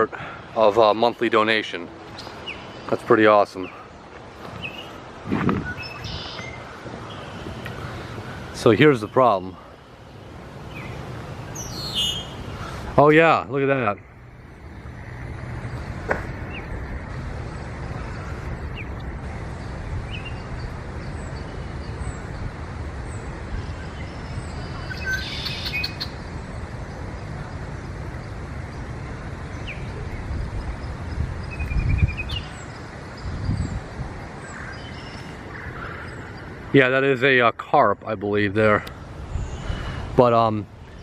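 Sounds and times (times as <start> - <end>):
birds chirping and calling: 0.2 - 41.0.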